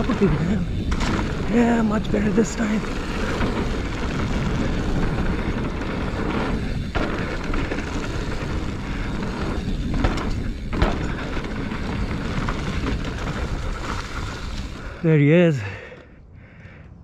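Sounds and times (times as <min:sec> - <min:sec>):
bike knocking over ground: 0:00.0 - 0:01.9, 0:02.6 - 0:14.9.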